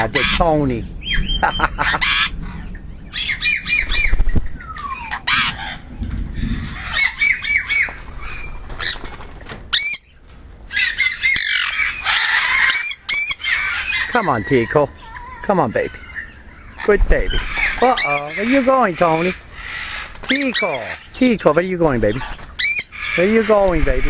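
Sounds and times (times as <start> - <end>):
parrots squawking: 0.0 - 24.0.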